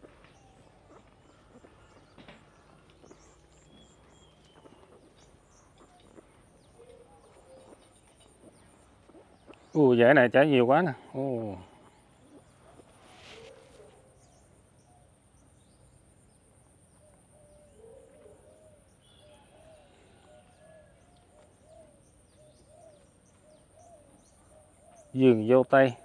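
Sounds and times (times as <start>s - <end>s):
bird cooing: 0.0s - 9.8s, 11.0s - 14.3s, 16.9s - 26.0s
small birds chirping: 0.0s - 26.0s.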